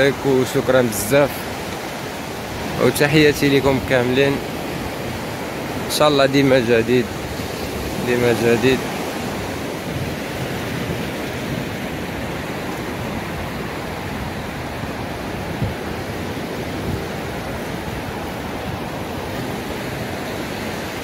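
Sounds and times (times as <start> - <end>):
surf washing onto beach: 0.0 - 21.0.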